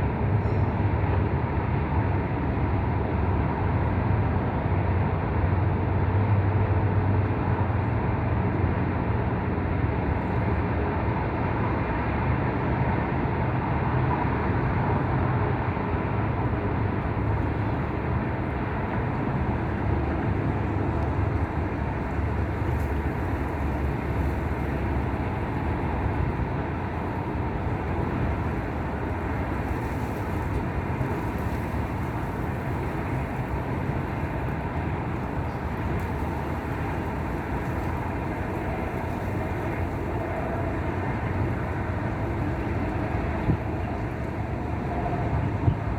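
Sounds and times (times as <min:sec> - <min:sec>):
steady wind rushing: 0:08.0 - 0:45.9.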